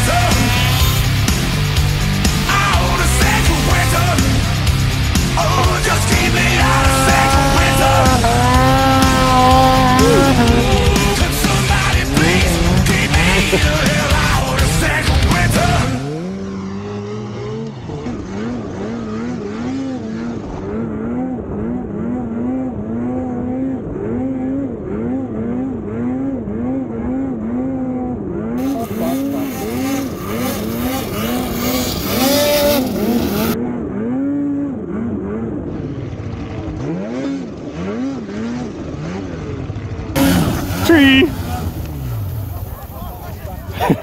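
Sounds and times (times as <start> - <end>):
snowmobile engine revving: 0.0 - 44.0.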